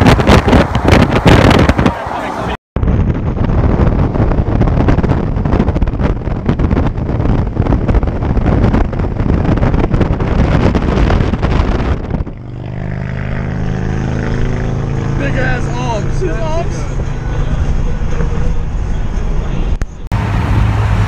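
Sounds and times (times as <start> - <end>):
road and engine noise: 0.0 - 21.0
steady engine hum: 0.0 - 21.0
wind blasting over microphone: 0.0 - 21.0.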